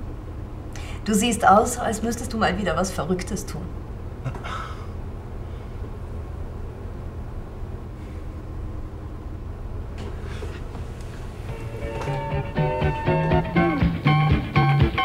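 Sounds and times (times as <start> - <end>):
low rumble of room tone: 0.0 - 14.9.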